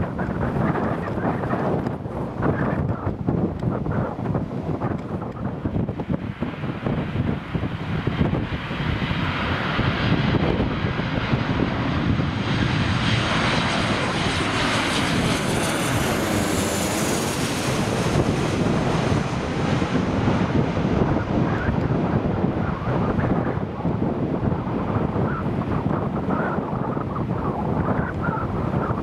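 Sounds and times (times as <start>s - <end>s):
airliner passing low overhead: 0.0s - 29.0s.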